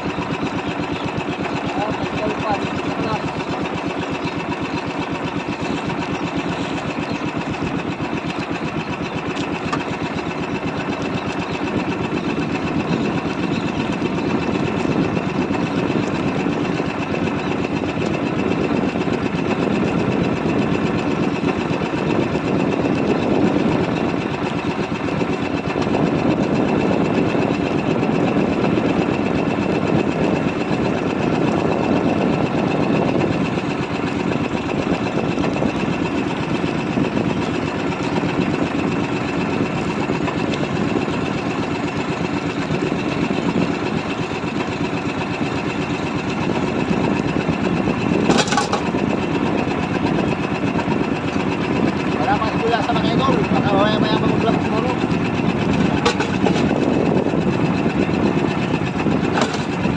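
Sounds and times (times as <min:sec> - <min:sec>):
boat engine puttering: 0:00.0 - 0:59.9.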